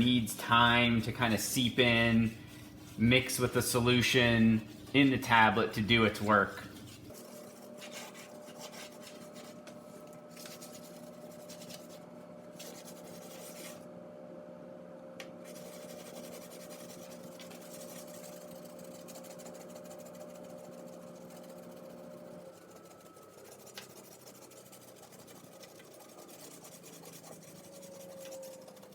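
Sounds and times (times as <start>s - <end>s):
tablet scrubbing on glass: 0.0s - 13.8s, 15.4s - 28.9s
low electrical hum: 0.0s - 28.9s.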